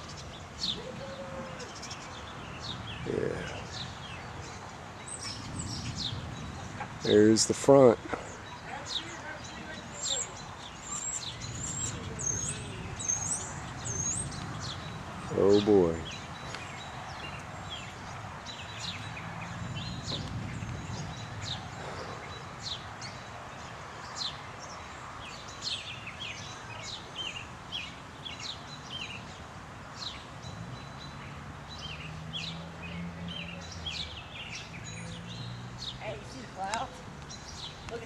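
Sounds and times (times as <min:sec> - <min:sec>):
birds chirping: 0:00.0 - 0:38.0
low outdoor background noise: 0:00.0 - 0:38.0.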